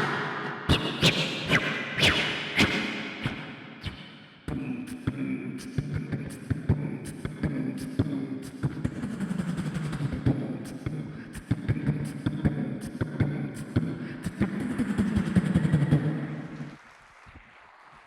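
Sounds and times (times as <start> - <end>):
beatboxing through a microphone: 0.0 - 17.5.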